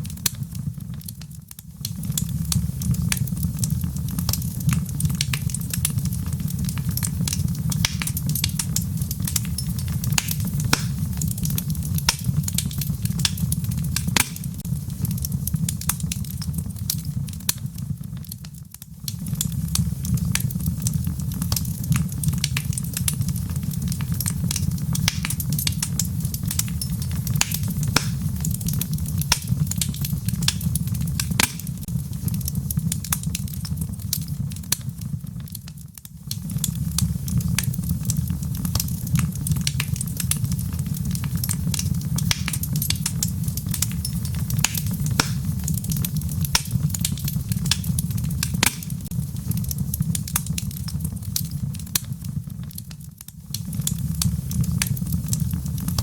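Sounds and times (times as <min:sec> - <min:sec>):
rain heard from indoors: 0:00.0 - 0:56.0
wood fire crackling and popping: 0:00.0 - 0:56.0.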